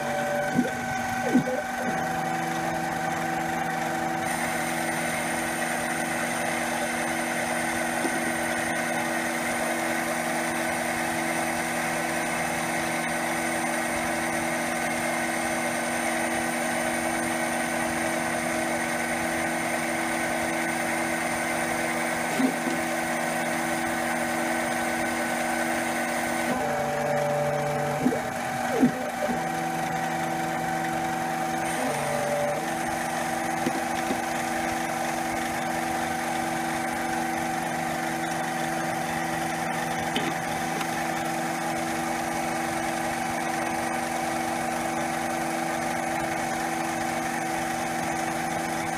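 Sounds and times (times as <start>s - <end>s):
lathe machine hum and whine: 0.0s - 48.9s.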